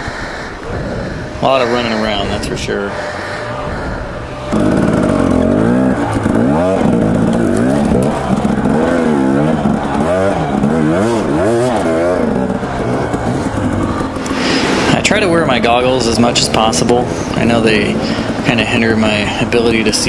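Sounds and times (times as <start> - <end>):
dirt bike engine revving: 0.6 - 20.0.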